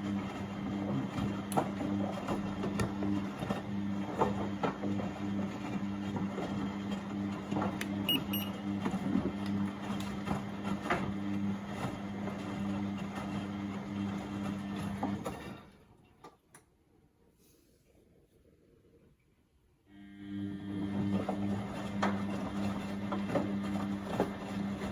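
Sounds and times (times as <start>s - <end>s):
washing machine motor hum: 0.0s - 16.0s, 19.9s - 24.9s.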